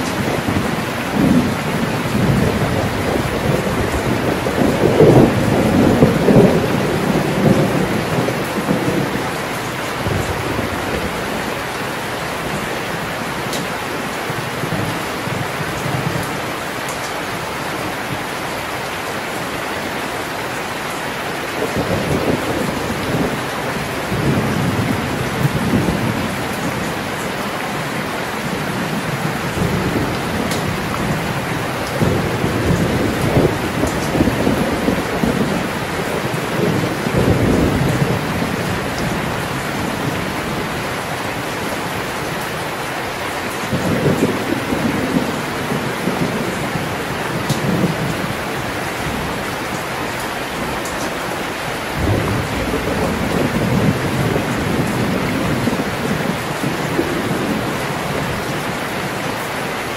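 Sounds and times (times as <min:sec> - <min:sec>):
heavy rain: 0:00.0 - 0:59.9
thunder rumbling: 0:00.0 - 0:59.9.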